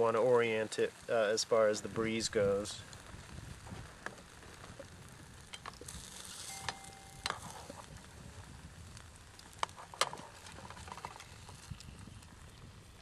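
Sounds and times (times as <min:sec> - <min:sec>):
eggs sizzling in a skillet: 0:00.0 - 0:13.0
stick fire crackling: 0:00.0 - 0:13.0.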